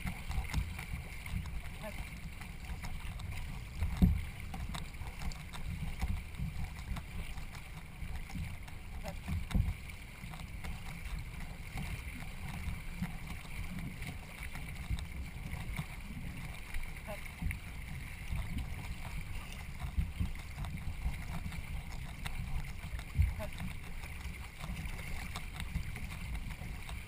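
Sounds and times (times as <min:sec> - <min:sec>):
paddle and water noise: 0:00.0 - 0:27.0
wind rumble on microphone: 0:00.0 - 0:27.0.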